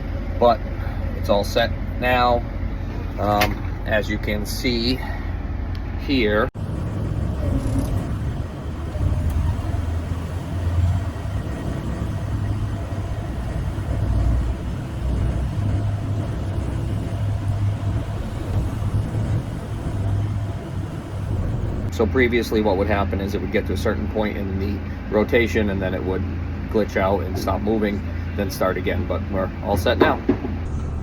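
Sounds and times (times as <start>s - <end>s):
diesel engine low rumble: 0.0s - 31.0s.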